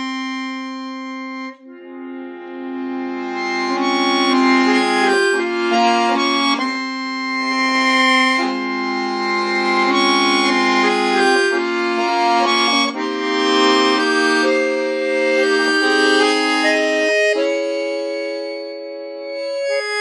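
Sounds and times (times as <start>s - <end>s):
solo accordion playing: 0.0s - 20.0s.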